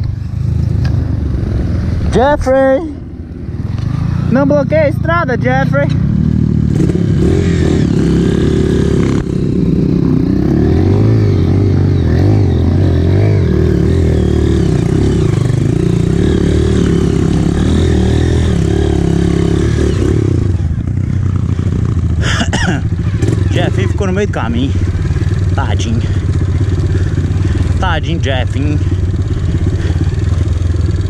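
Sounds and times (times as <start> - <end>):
dirt bike engine revving: 3.0 - 31.0.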